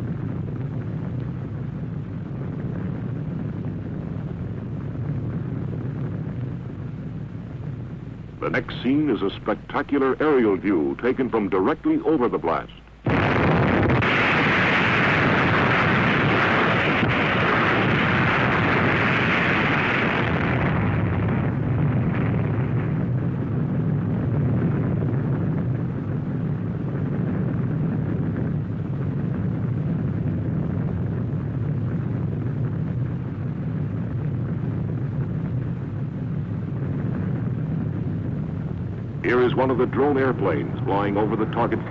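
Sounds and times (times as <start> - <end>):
atomic blast roar: 0.0 - 41.9.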